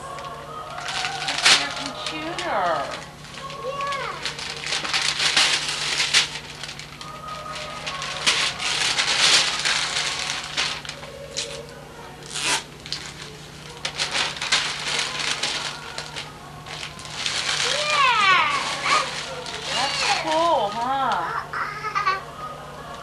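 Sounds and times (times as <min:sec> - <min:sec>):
wrapping paper crinkling and tearing: 0:00.0 - 0:21.4.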